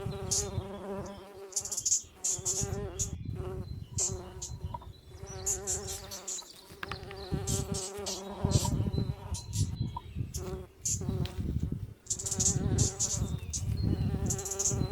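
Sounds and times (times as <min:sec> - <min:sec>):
insects buzzing: 0:00.0 - 0:14.9.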